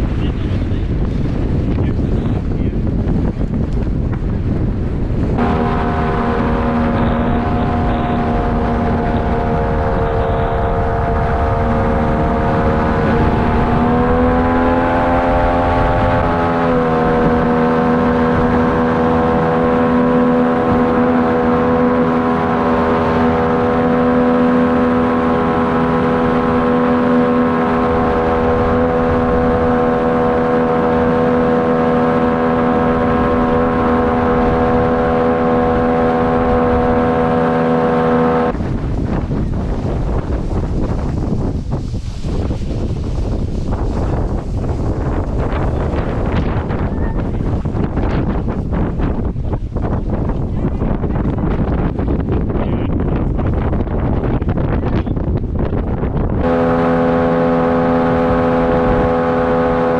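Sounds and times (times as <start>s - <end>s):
boat engine running: 0.0s - 59.9s
wind buffeting microphone: 0.0s - 59.9s.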